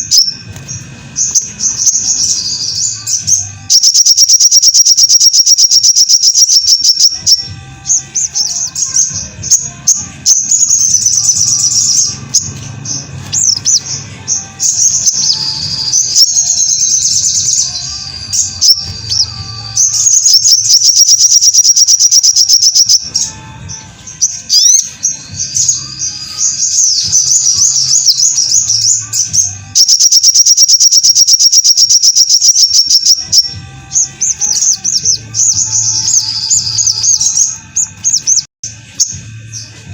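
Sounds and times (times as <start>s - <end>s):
squeaky chattering bird phrases: 0.0s - 38.5s
sunbird singing rapid trills: 0.0s - 39.8s.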